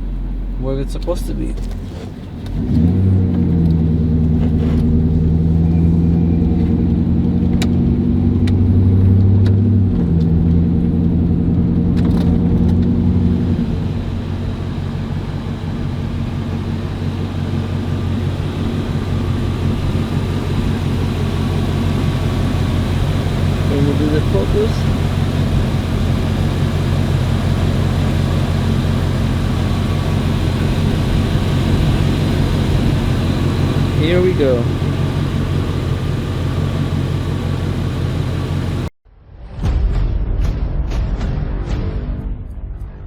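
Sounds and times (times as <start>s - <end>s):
car engine drone: 0.0s - 38.9s
road rumble: 0.0s - 39.0s.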